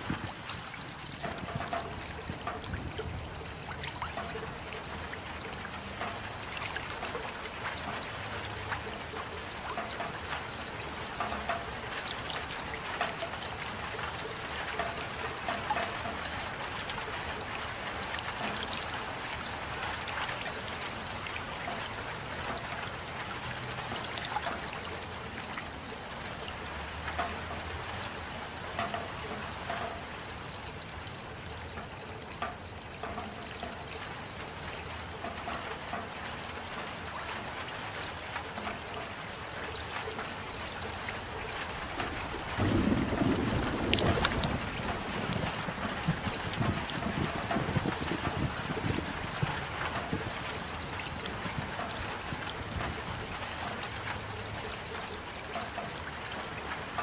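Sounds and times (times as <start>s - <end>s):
rain falling: 0.0s - 57.0s
water trickling: 0.0s - 57.0s.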